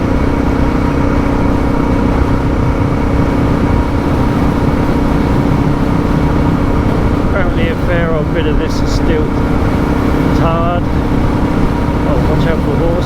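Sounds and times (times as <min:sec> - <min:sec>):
motorcycle engine cruising: 0:00.0 - 0:13.0
wind noise on helmet: 0:00.0 - 0:13.0.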